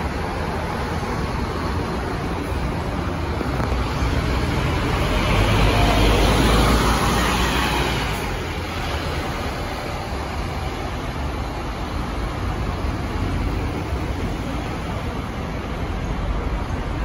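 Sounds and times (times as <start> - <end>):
bus diesel engine passing: 0.0 - 17.0.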